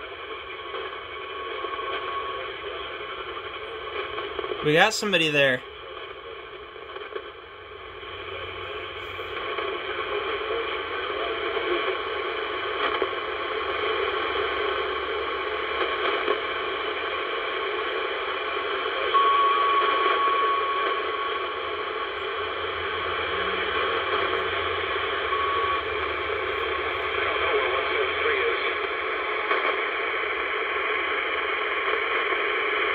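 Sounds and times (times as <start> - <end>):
radio static hiss: 0.0 - 32.9.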